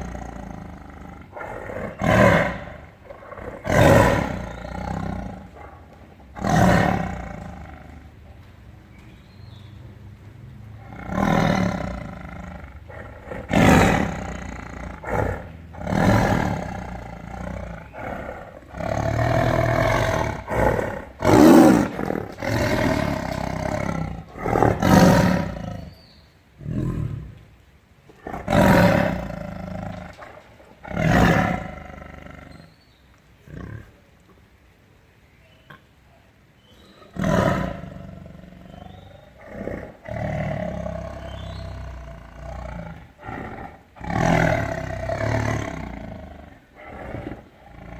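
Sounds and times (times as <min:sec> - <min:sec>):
tiger roaring: 0:00.0 - 0:08.2, 0:10.6 - 0:26.0, 0:26.6 - 0:27.4, 0:28.1 - 0:32.7, 0:37.0 - 0:47.9.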